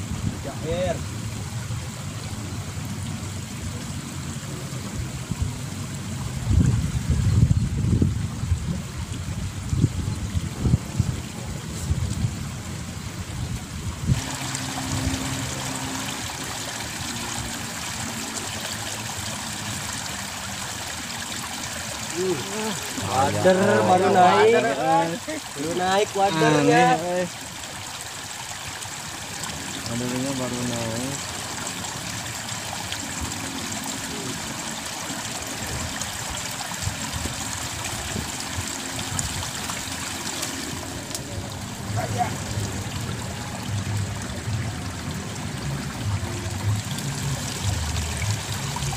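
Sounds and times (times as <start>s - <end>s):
water trickling in a ditch: 0.0s - 48.9s.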